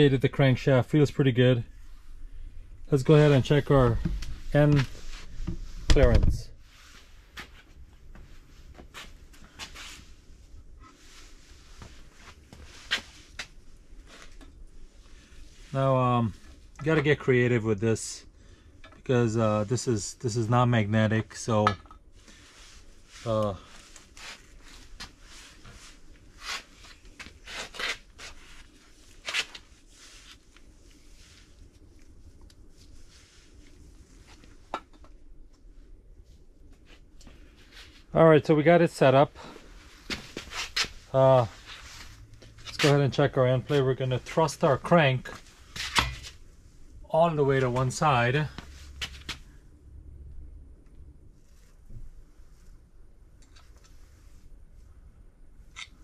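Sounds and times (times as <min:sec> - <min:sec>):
handling rustles and scrapes: 0:01.7 - 0:17.3, 0:21.4 - 0:38.2, 0:39.4 - 0:49.5, 0:51.3 - 0:55.0.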